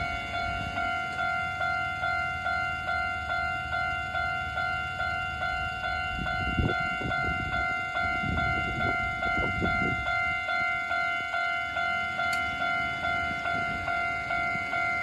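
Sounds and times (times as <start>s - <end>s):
level-crossing warning bell ringing: 0.0s - 15.0s.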